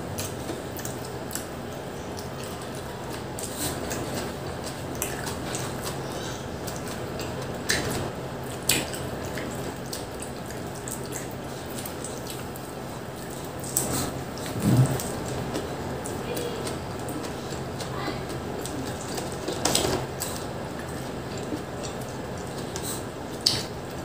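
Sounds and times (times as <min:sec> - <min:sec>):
people chewing pizza: 0:00.0 - 0:24.0.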